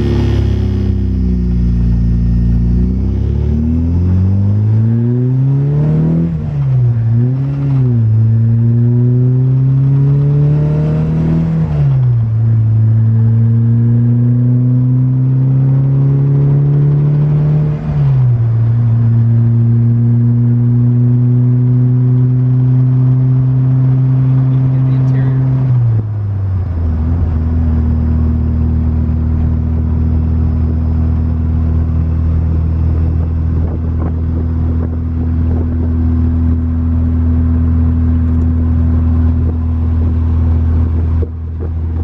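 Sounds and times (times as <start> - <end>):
car engine accelerating through gears: 0.0 - 42.0.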